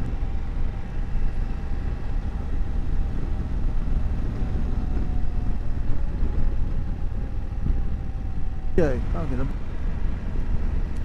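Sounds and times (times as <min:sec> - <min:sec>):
wind rumbling over microphone: 0:00.0 - 0:11.0.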